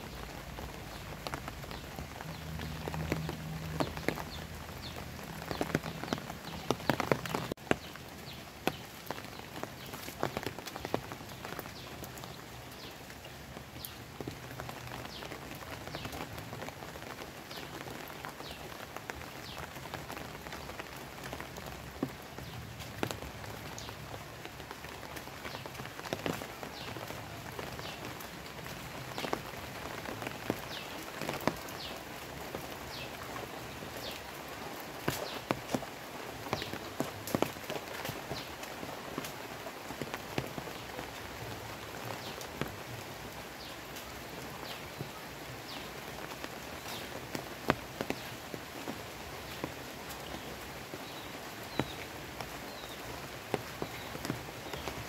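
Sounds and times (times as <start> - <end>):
light rain hissing: 0.0 - 55.0
raindrops pattering on foliage: 0.0 - 55.0.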